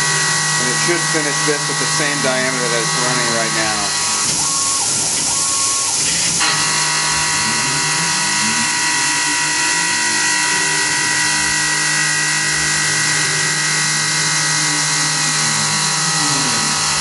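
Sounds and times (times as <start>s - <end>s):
milling machine cutting whine: 0.0s - 17.0s.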